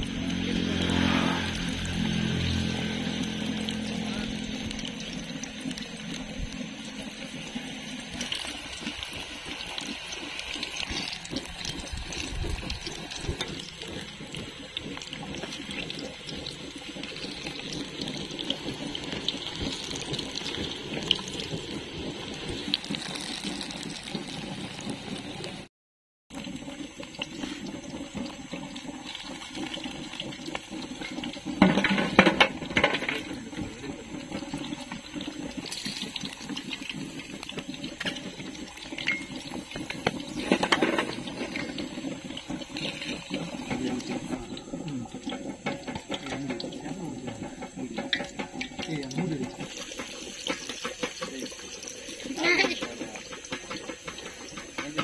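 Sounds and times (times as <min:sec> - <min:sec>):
batter deep-frying in oil: 0:00.0 - 0:25.7, 0:26.3 - 0:55.0.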